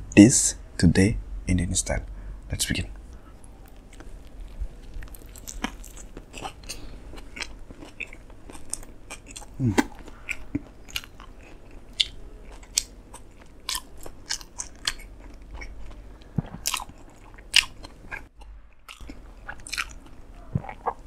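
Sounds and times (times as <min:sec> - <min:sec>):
chewing and crunching toast: 0:03.4 - 0:21.0.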